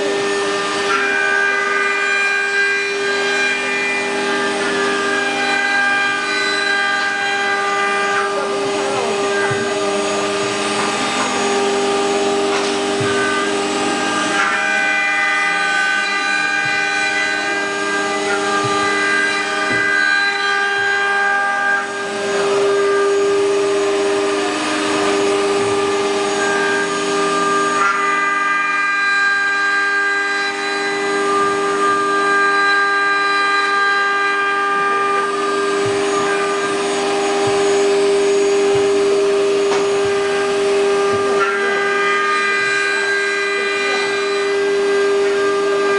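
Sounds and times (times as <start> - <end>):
wood router spindle whine: 0.0 - 45.9.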